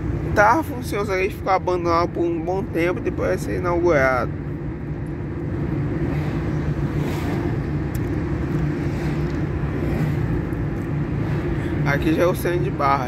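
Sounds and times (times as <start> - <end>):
car engine hum: 0.0 - 13.0.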